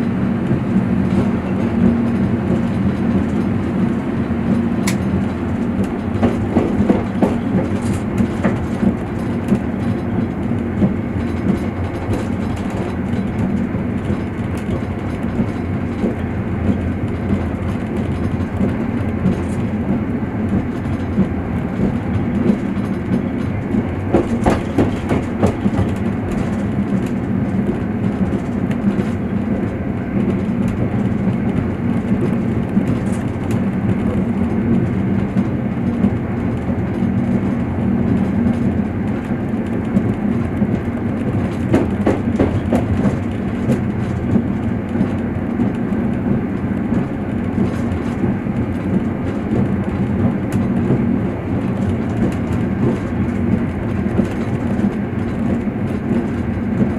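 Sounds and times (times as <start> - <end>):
train carriage rumbling: 0.0 - 56.9
wheel clicks over rail joints: 0.4 - 56.9.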